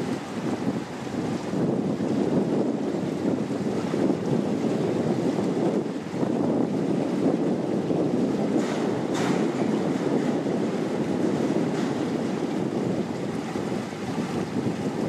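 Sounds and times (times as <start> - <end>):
river water rushing: 0.0 - 15.0
wind rumble on microphone: 0.0 - 15.0.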